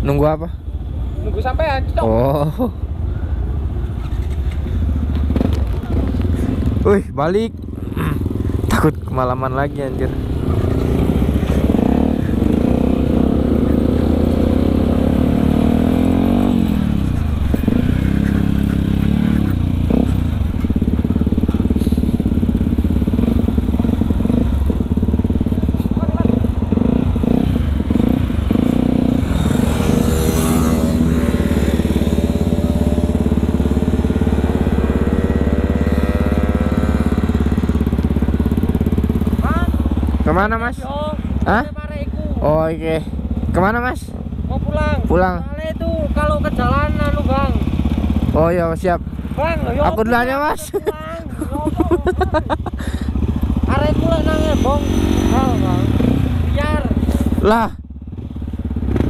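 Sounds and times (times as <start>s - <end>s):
motorcycle engine running: 3.5s - 59.0s.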